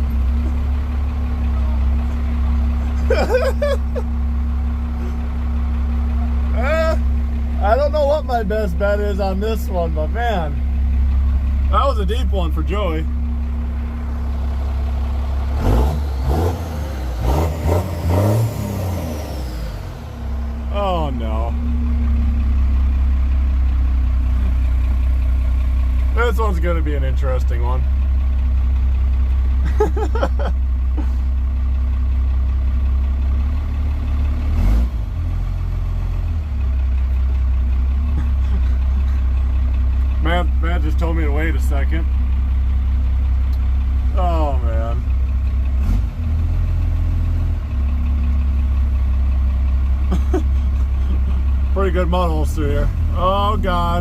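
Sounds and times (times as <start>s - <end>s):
truck engine revving: 0.0s - 27.8s, 29.6s - 31.3s, 33.5s - 36.6s, 37.9s - 42.2s, 43.5s - 54.0s.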